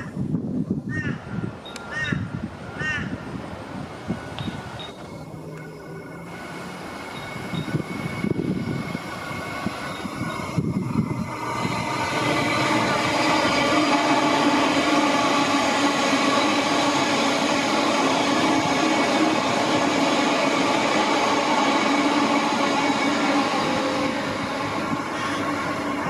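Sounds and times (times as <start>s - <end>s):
train wheels on rail: 0.1s - 26.0s
train motor hum with held tones: 4.1s - 26.0s.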